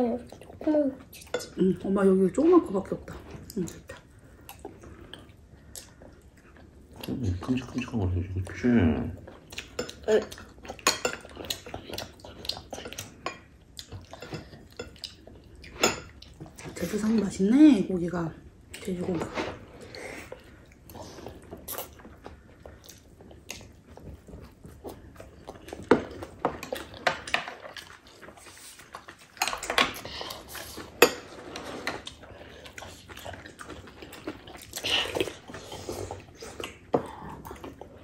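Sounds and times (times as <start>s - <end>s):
chewing: 0.0s - 1.6s, 2.4s - 17.4s, 18.7s - 38.0s.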